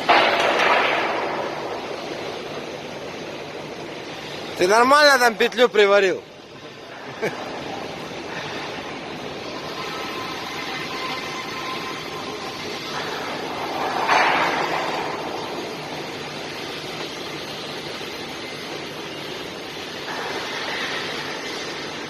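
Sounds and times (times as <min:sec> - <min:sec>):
rushing workshop noise: 0:00.0 - 0:22.0.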